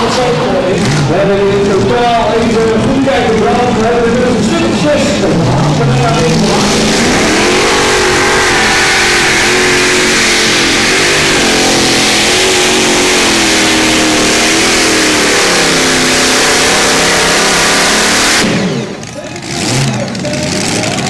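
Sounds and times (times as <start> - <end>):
tractor engine running hard: 0.0 - 21.0.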